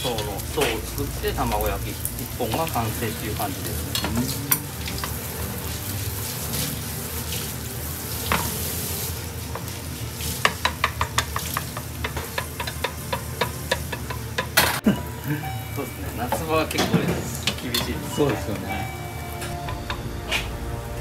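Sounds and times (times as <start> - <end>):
chopsticks tapping pan: 0.0 - 5.4, 8.2 - 20.6
egg sizzling in pan: 0.0 - 21.0.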